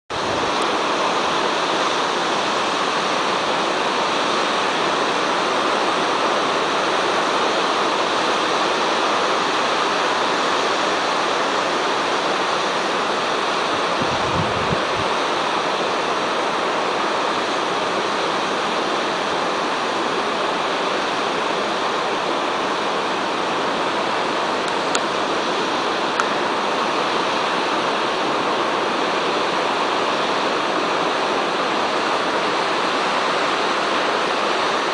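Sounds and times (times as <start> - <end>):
distant ocean surf: 0.1 - 34.9.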